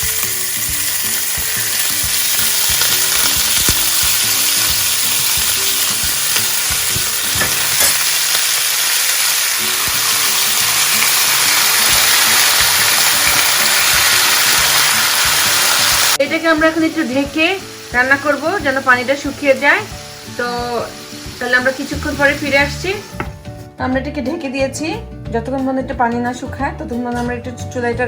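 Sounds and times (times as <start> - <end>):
meat sizzling in hot oil: 0.0 - 23.7.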